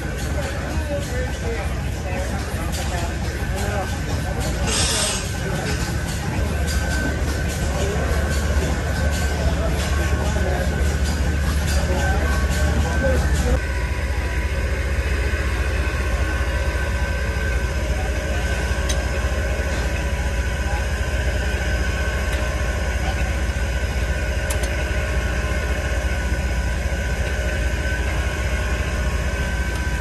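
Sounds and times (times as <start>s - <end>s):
large engine rumbling: 0.0s - 30.0s.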